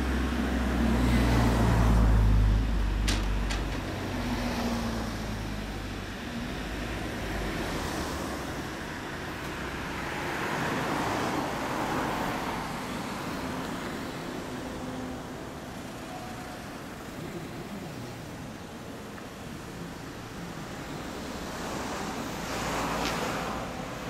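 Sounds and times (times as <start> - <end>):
car passing: 0.0 - 24.0.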